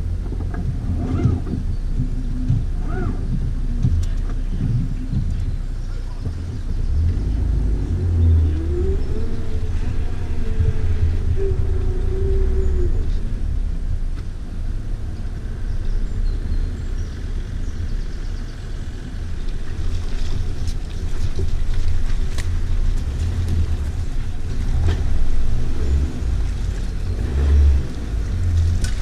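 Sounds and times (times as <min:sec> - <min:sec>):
car engine rumbling under load: 0:00.0 - 0:29.0.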